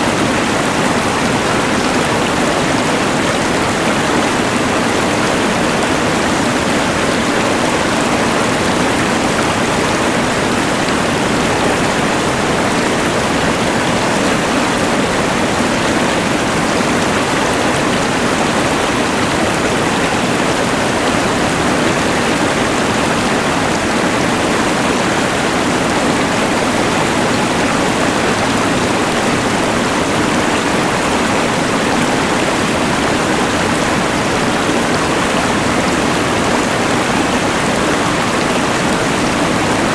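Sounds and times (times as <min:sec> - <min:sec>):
rushing river: 0:00.0 - 0:39.9.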